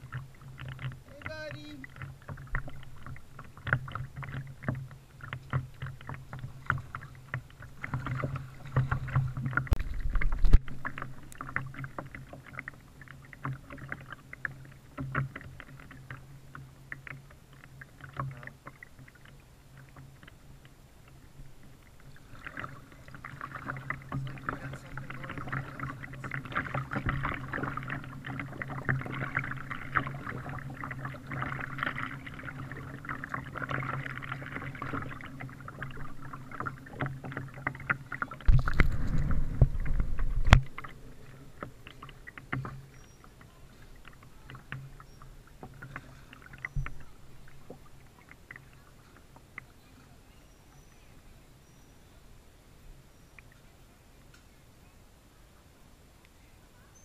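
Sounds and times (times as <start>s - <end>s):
paddle splashing water: 0.0s - 57.0s
water lapping against hull: 0.0s - 57.0s.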